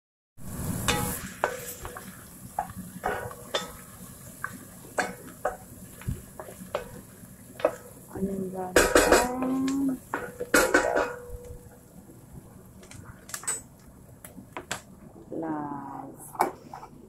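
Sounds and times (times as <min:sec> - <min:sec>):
vegetables sizzling: 0:00.4 - 0:16.8.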